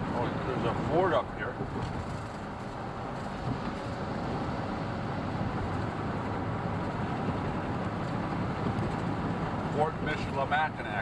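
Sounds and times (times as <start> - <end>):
car engine cruising: 0.0 - 11.0
tyres on road: 0.0 - 11.0.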